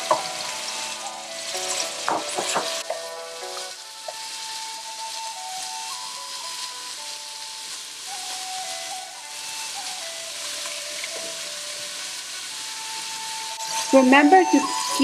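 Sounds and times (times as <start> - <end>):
meat sizzling in a wok: 0.0 - 15.0
soft background music: 0.0 - 15.0.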